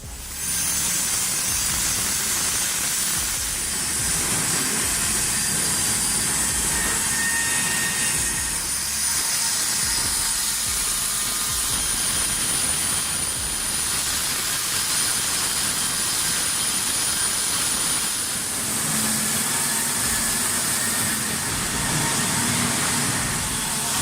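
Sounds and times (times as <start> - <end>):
machine noise with high hiss: 0.0 - 24.0.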